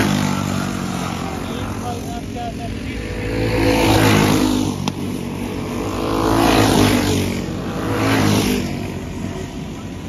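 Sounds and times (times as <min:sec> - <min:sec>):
racing kart engines passing: 0:00.0 - 0:10.0.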